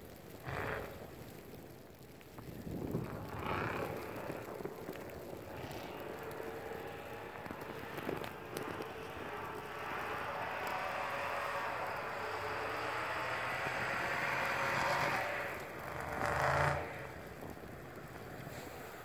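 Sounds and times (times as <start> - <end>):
distant truck engine revving: 3.2 - 19.0.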